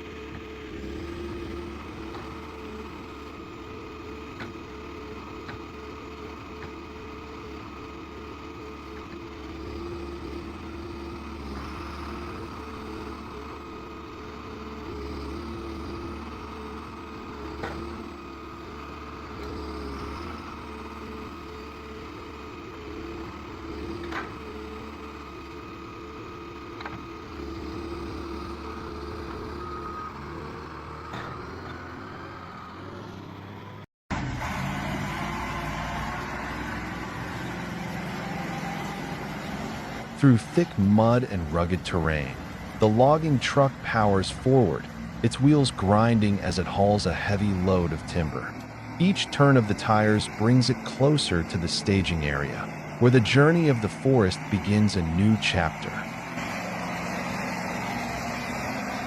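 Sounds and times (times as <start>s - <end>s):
diesel engine running: 0.0s - 59.0s
hydraulics humming: 0.0s - 59.0s
loud engine: 0.0s - 59.0s.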